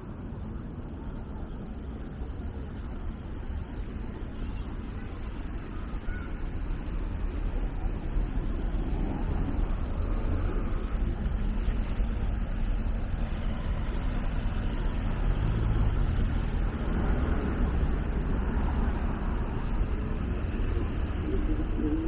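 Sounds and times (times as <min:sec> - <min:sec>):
cars driving past: 0:00.0 - 0:22.0.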